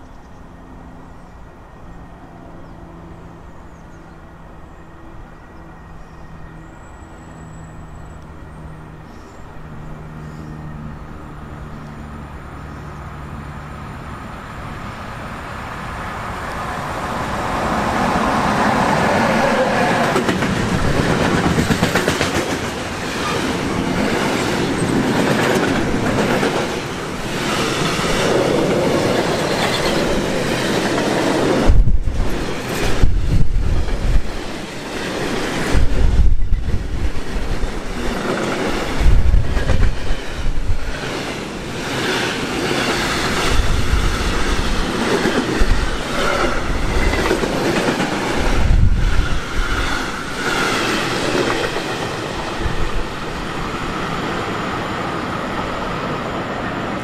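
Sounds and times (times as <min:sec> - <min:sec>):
train passing: 0:00.0 - 0:57.0.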